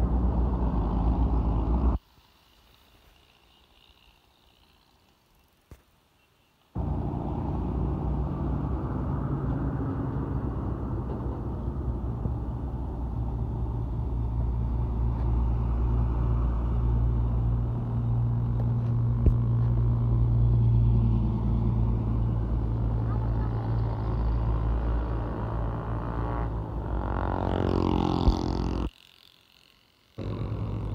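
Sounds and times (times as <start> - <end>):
road rumble: 0.0 - 2.0, 6.8 - 28.9, 30.2 - 30.9
truck engine drone: 0.0 - 2.0, 6.8 - 28.9, 30.2 - 30.9.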